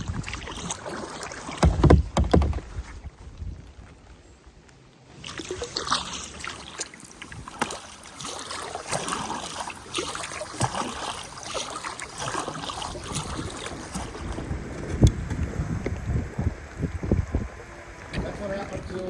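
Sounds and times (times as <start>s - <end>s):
water splashing from paddling: 0.0s - 4.0s, 5.0s - 19.0s.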